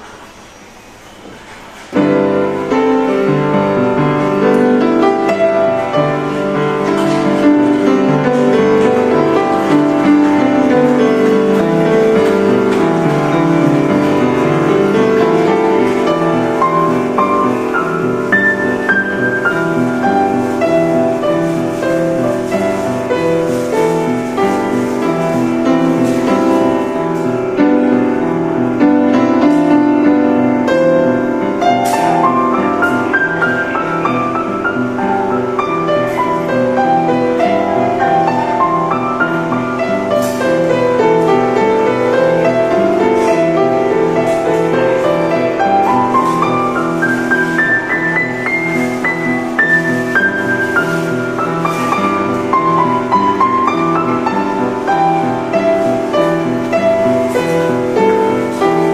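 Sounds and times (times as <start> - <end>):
upright piano playing: 0.0 - 58.9.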